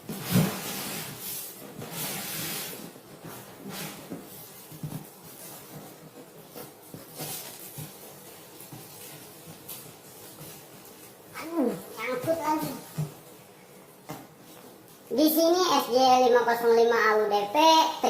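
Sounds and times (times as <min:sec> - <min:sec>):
packaging rustling and scraping: 0:00.0 - 0:15.1.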